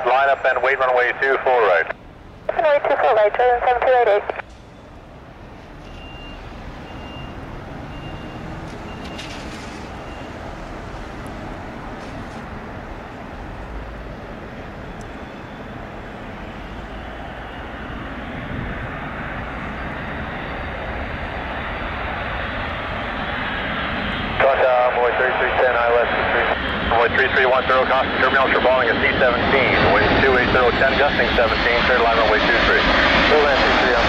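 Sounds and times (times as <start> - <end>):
jet aircraft rumble and hiss: 0.0 - 34.0.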